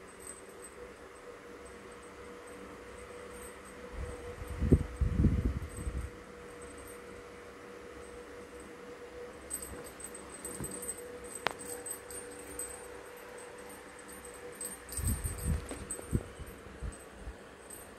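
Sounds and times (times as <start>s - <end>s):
small bell jingling: 0.0s - 7.3s, 9.3s - 17.9s.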